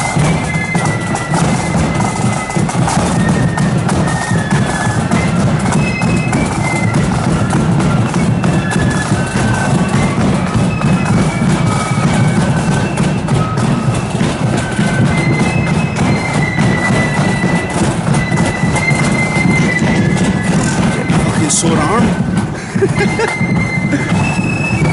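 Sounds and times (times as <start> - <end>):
continuous drumming: 0.0 - 24.9
marching band melody: 0.0 - 24.9.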